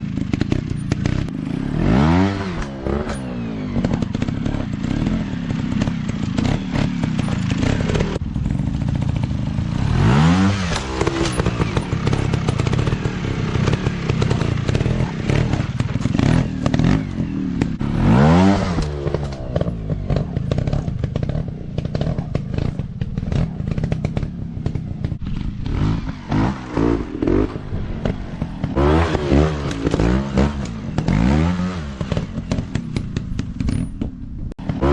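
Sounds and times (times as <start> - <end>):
dirt bike engines revving: 0.0 - 34.9
knocks and clatter: 2.5 - 9.4, 10.6 - 34.9.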